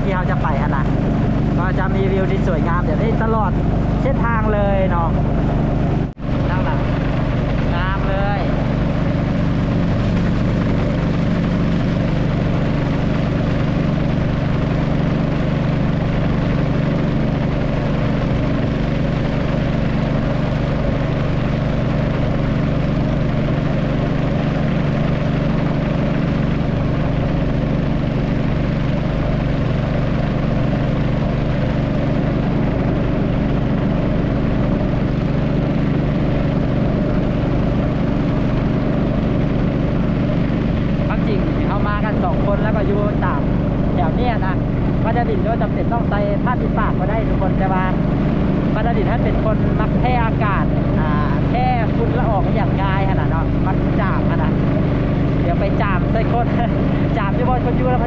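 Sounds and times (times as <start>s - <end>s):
motorboat engine humming: 0.0s - 58.0s
water and hull noise: 0.0s - 58.0s.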